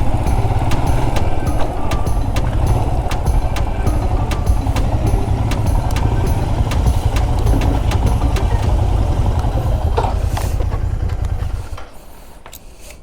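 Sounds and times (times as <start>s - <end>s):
engine ticking: 0.0s - 12.0s
motorcycle engine idling: 0.0s - 12.0s.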